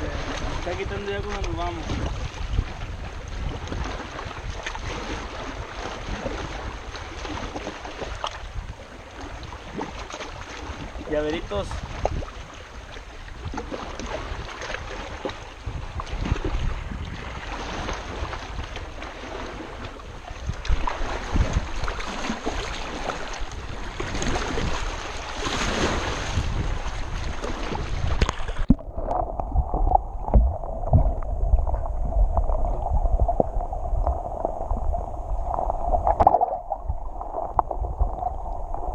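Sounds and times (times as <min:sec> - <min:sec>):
underwater sloshing rumble: 0:00.0 - 0:38.9
waves lapping against rocks: 0:00.0 - 0:38.9
wind buffeting microphone: 0:00.0 - 0:38.9.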